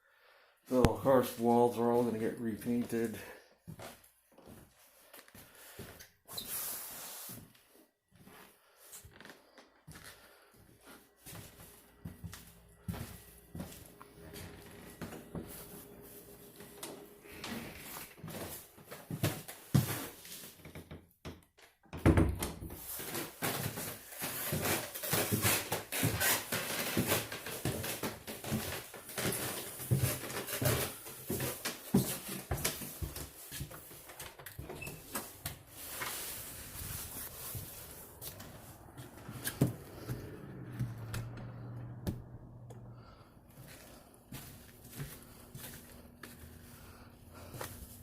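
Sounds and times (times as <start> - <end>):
footsteps: 7.3 - 20.6, 22.8 - 48.0.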